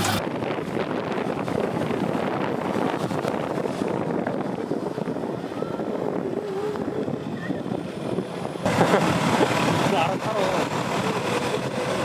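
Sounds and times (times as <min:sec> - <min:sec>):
ferry engine noise: 0:00.0 - 0:12.0
wind: 0:00.0 - 0:12.0.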